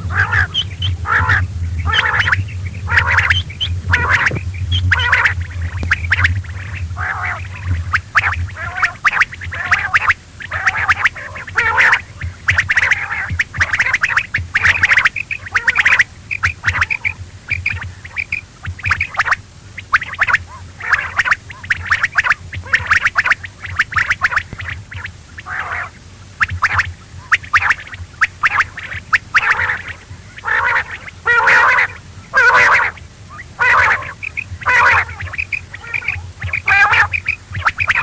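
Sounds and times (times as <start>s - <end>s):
quail calling: 0.0s - 38.0s
steady low hum: 0.0s - 38.0s.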